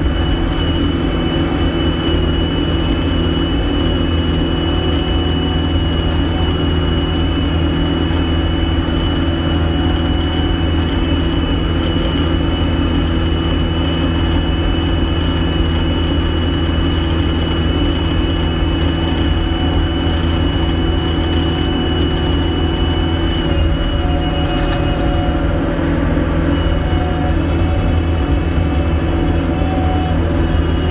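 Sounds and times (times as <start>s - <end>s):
diesel engine drone: 0.0s - 30.9s
high-pitched whine: 0.0s - 30.9s.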